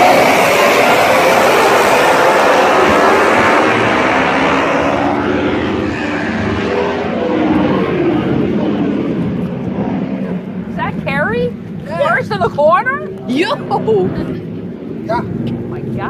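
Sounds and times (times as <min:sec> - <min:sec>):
racing motorcycles accelerating: 0:00.0 - 0:16.0.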